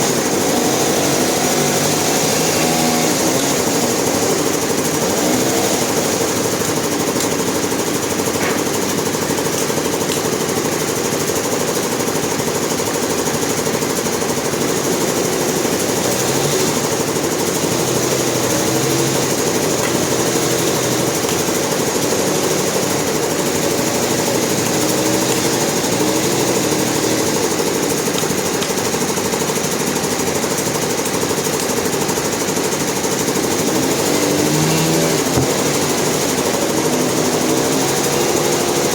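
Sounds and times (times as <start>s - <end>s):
sawmill machinery rattling: 0.0s - 38.9s.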